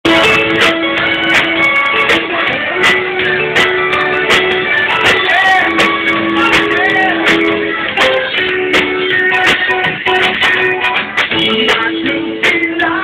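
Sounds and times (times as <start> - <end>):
drums keeping steady beat: 0.0 - 13.0.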